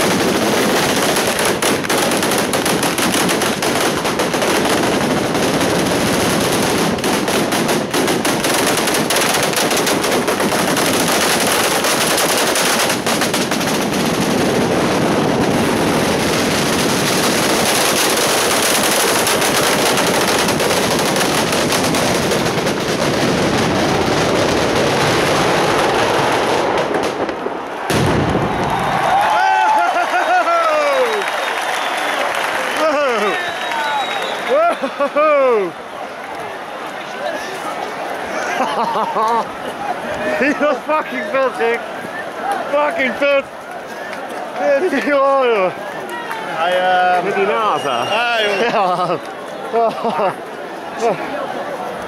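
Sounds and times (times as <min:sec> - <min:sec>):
firecrackers crackling: 0:00.0 - 0:52.0.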